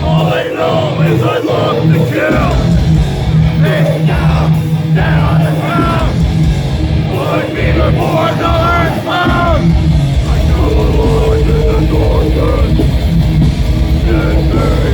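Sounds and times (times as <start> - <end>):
death metal band playing live: 0.0 - 14.9
yelled vocals: 0.0 - 14.9.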